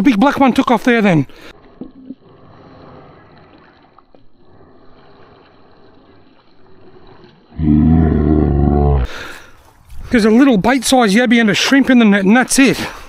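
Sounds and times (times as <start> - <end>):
water swishing and dripping: 0.0 - 13.0.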